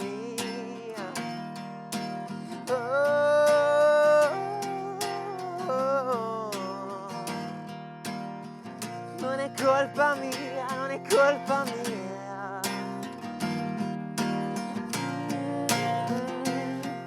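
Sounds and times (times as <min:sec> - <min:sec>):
person singing wordlessly: 0:00.0 - 0:07.7, 0:08.8 - 0:17.0
strummed acoustic guitar: 0:00.0 - 0:17.0.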